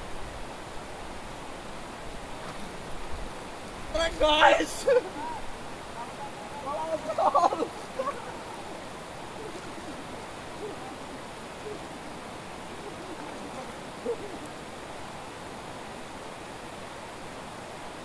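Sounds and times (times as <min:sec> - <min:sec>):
river flowing over stones: 0:00.0 - 0:18.0.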